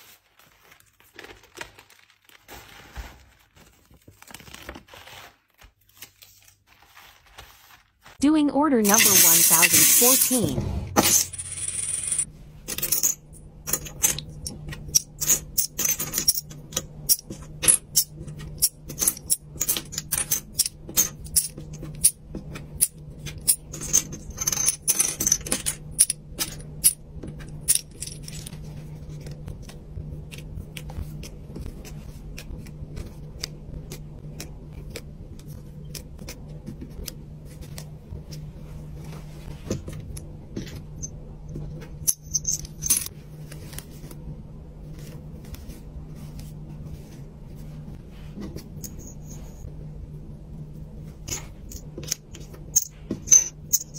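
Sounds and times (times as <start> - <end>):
low steady hum: 8.0 - 53.9.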